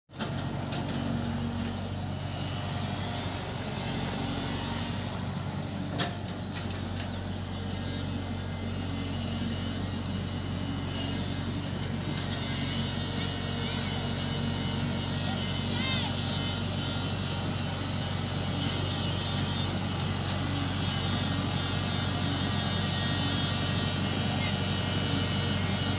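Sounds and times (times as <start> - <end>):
engine running: 0.1 - 25.9.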